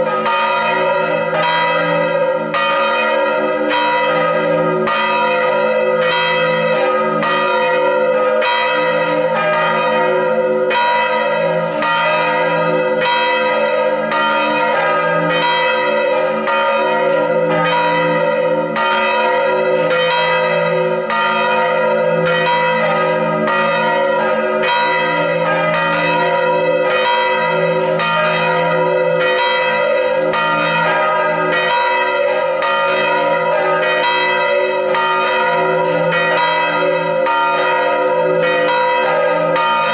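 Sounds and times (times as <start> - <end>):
church bells ringing in full peal: 0.0 - 39.9.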